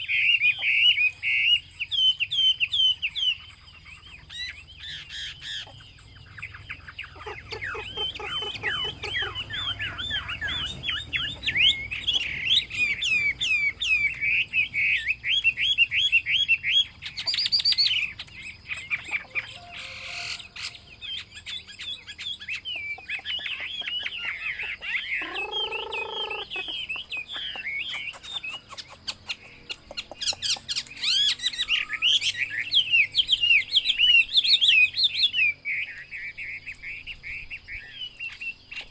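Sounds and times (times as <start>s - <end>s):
bird singing whistled trills: 0.0s - 38.9s.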